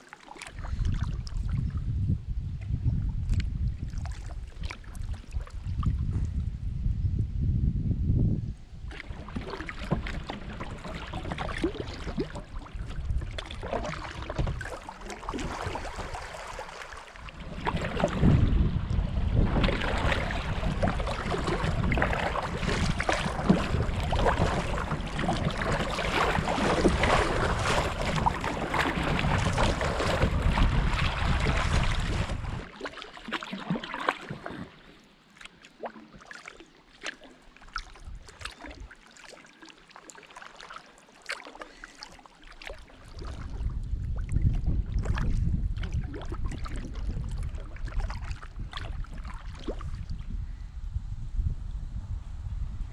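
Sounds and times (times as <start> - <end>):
water splashing around kayak: 0.0 - 6.5, 8.8 - 50.5
wind rumbling on microphone: 0.5 - 32.7, 37.7 - 38.9, 43.0 - 52.9.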